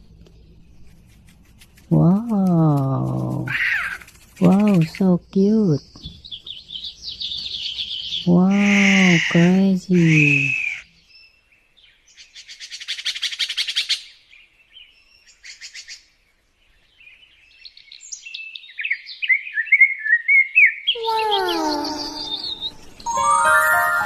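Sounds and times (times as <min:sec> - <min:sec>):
songbird trilling and chirping: 0:00.2 - 0:14.0, 0:16.7 - 0:23.1.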